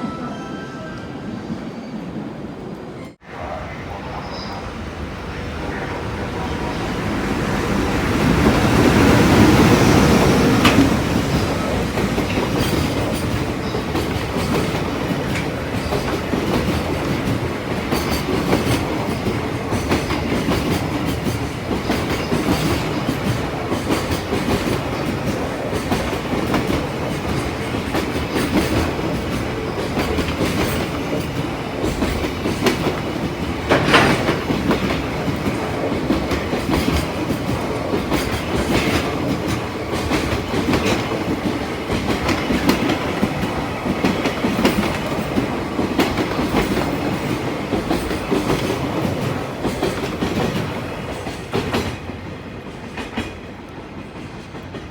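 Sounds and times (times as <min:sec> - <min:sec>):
locomotive passing: 0:00.0 - 0:54.8
train clatter: 0:05.6 - 0:54.9
wheels clacking over rail joints: 0:07.9 - 0:54.9.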